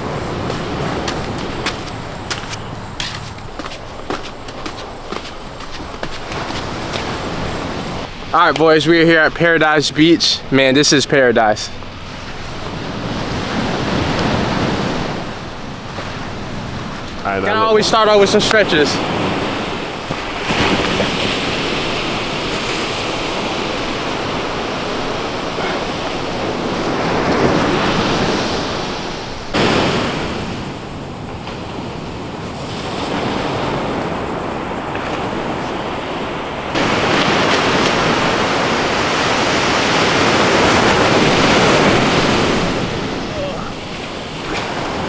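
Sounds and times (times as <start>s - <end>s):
ocean surf washing onto beach: 0.0s - 45.0s
wind buffeting microphone: 0.0s - 45.0s.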